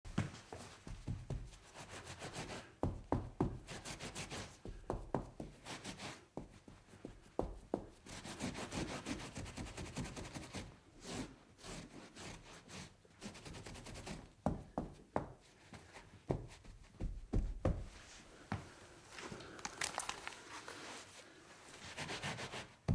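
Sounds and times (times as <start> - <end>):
rubbing and wiping: 0.4 - 22.9.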